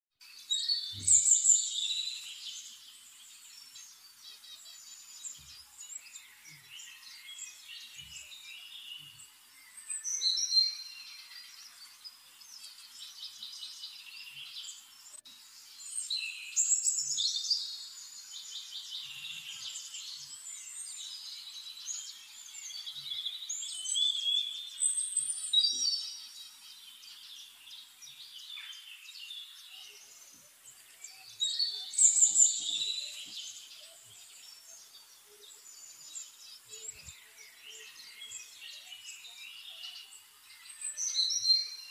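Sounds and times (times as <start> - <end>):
small birds chirping and singing: 0.2 - 41.9.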